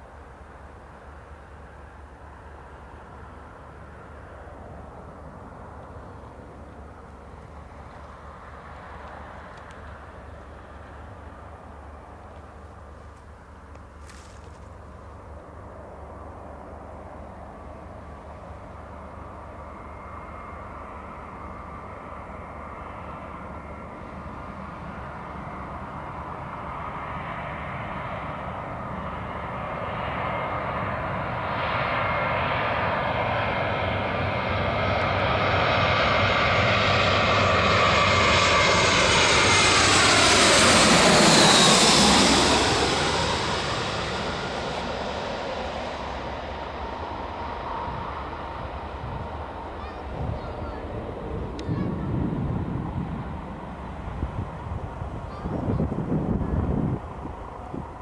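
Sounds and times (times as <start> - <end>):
jet airliner passing overhead: 0.0 - 58.0.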